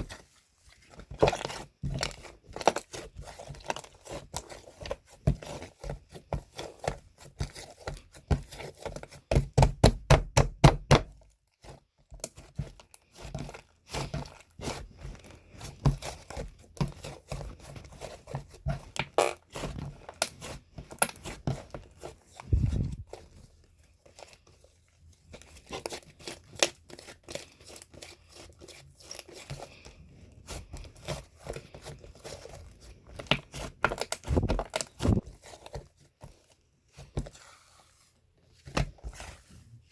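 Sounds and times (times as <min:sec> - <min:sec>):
handling taps scrapes and crinkling: 0:00.0 - 0:09.6, 0:11.0 - 0:39.9.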